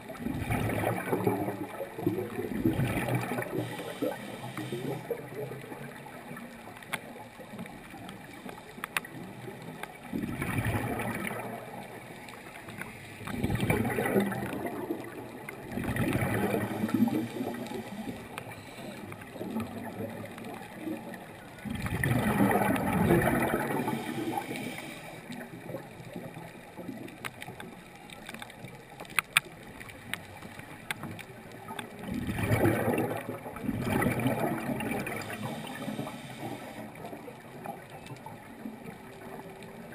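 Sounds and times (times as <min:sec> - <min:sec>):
water gurgling and bubbling: 0:00.0 - 0:08.3, 0:09.0 - 0:27.6, 0:29.6 - 0:39.9.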